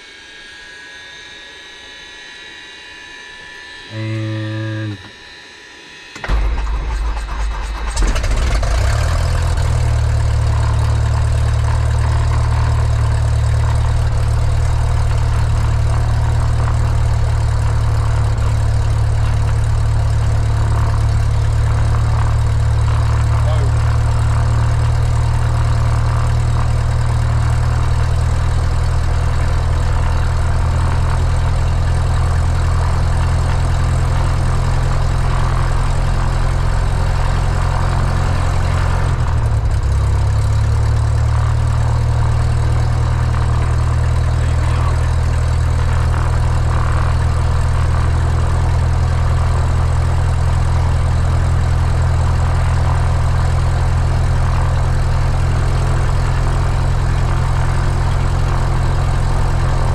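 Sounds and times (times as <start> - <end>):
airplane piston engine idling: 3.9 - 5.4, 6.1 - 59.9.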